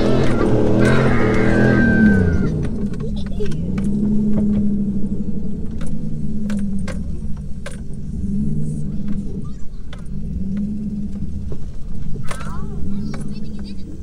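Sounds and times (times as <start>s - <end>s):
car engine at low revs: 0.0s - 14.0s
clunks and rattles in cab: 0.0s - 14.0s.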